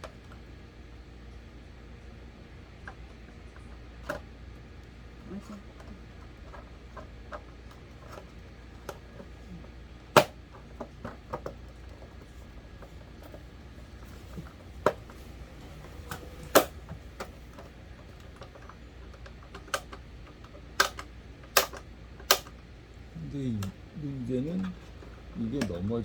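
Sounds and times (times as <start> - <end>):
clicks and knocks of fan parts: 2.8 - 9.4, 10.0 - 22.7, 23.4 - 25.9.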